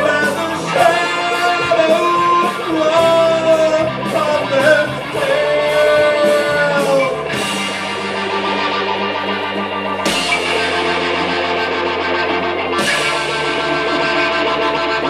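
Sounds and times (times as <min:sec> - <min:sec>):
electric guitar lead lines: 0:00.0 - 0:15.0.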